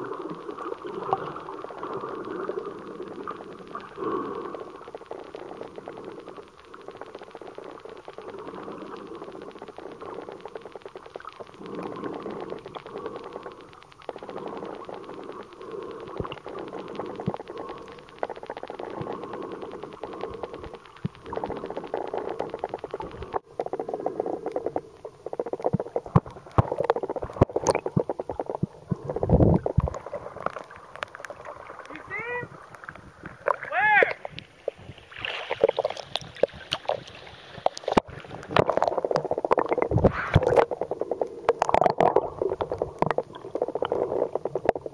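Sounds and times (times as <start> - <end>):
underwater water rushing: 0.0 - 44.9.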